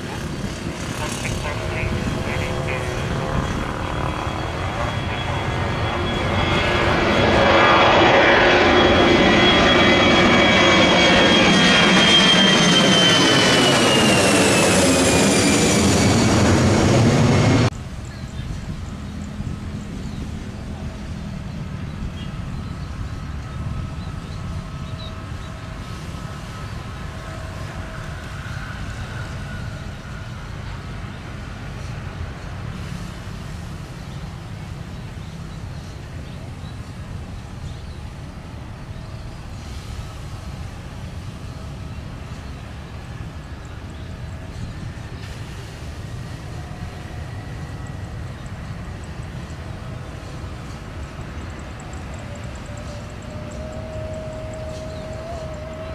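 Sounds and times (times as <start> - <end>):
distant jet engines rumbling: 0.0 - 55.9.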